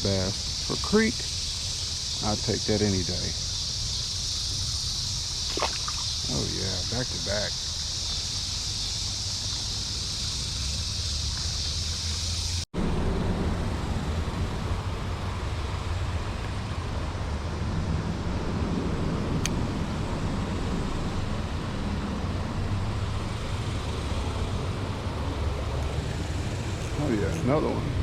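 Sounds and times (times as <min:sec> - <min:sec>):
distant road traffic: 0:00.0 - 0:28.0
high steady hiss: 0:00.0 - 0:28.0
wind: 0:00.0 - 0:28.0.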